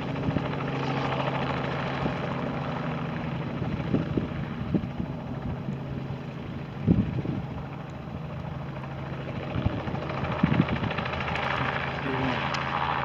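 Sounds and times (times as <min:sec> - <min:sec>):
helicopter engine and rotor hum: 0:00.0 - 0:13.0.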